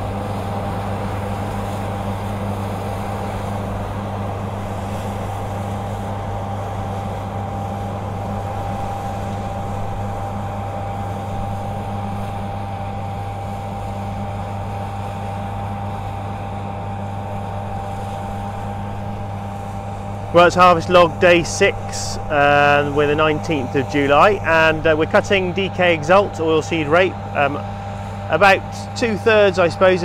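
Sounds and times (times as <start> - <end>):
engine humming with whine: 0.0 - 30.0.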